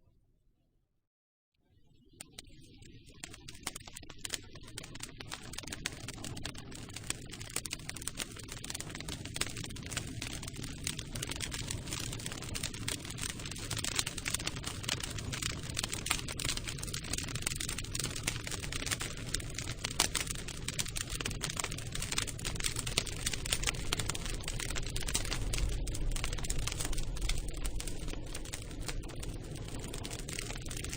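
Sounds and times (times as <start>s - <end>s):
campfire crackling: 3.2s - 30.9s.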